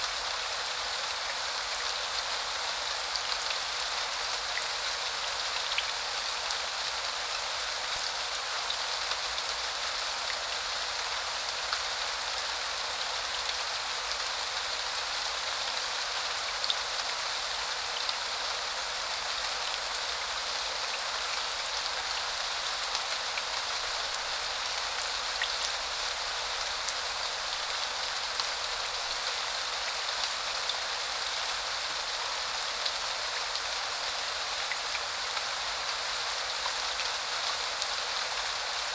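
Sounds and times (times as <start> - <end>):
rain hissing on surfaces: 0.0 - 38.9.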